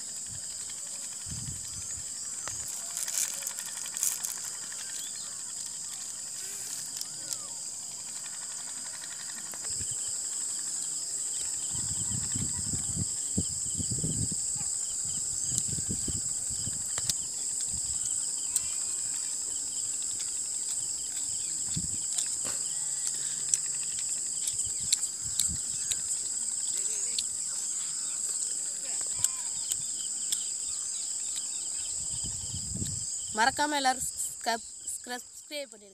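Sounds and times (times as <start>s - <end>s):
insects chirring: 0.0s - 35.9s.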